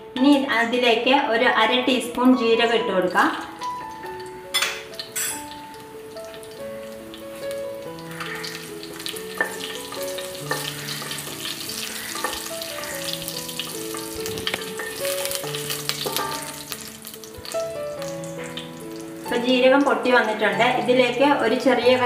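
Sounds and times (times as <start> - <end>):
gentle background melody: 0.0 - 22.0
seeds sizzling in hot oil: 2.9 - 22.0.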